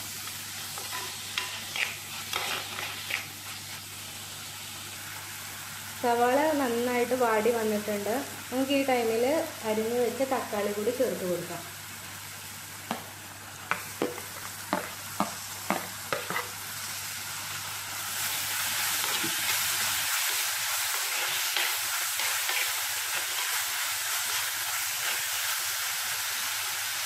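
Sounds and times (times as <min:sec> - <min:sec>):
onions frying in oil: 0:00.0 - 0:27.0
tomatoes sizzling in hot oil: 0:00.0 - 0:27.0.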